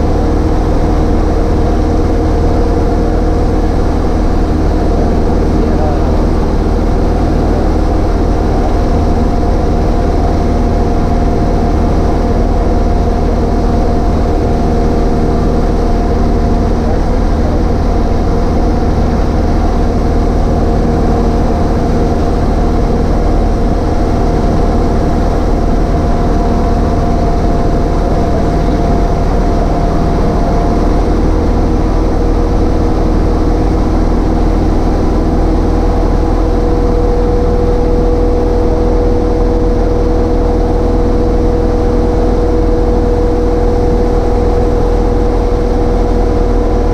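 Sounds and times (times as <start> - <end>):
airplane engine drone in cockpit: 0.0 - 46.9.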